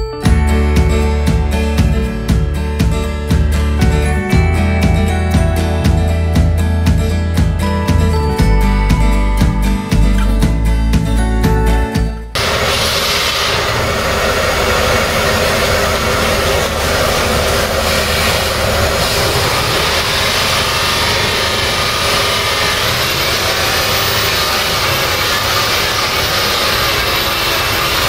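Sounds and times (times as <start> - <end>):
diesel generator running: 0.0 - 28.0.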